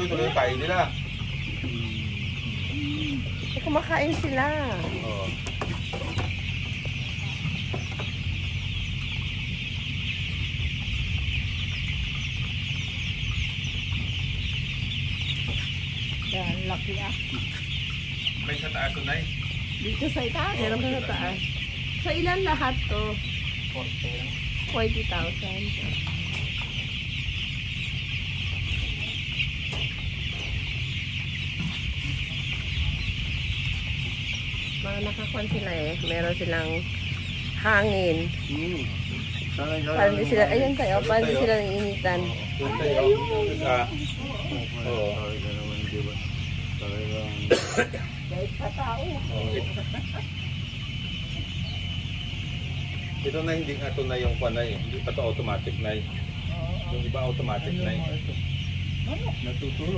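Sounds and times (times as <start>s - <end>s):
chicks peeping: 0.0s - 59.9s
ventilation fans humming: 0.0s - 59.9s.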